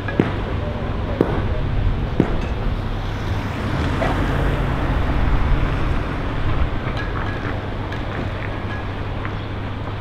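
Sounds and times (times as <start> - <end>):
street traffic rumble: 0.0 - 10.0
wind buffeting microphone: 0.0 - 10.0.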